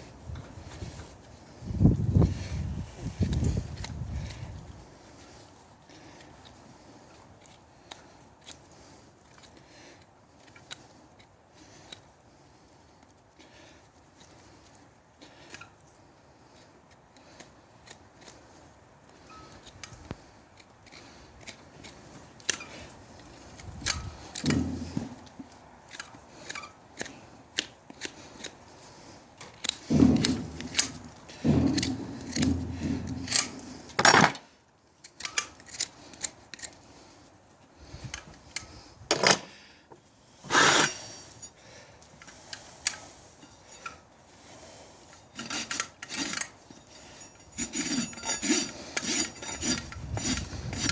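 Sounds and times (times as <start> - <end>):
hoof scraping and cutting: 0.0 - 34.4, 35.0 - 39.0, 40.1 - 50.9.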